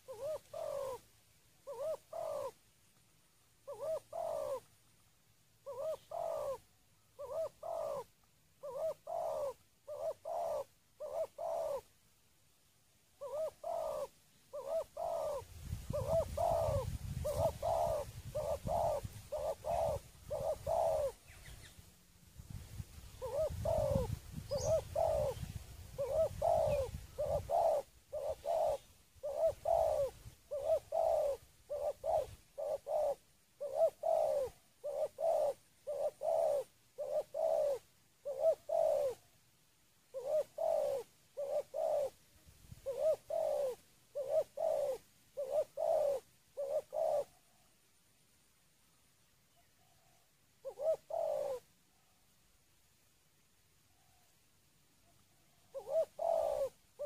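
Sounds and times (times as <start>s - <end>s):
dove cooing: 0.0s - 2.6s, 3.6s - 4.8s, 5.6s - 11.9s, 13.2s - 21.7s, 22.7s - 39.4s, 40.1s - 47.7s, 49.5s - 52.2s, 55.0s - 57.0s.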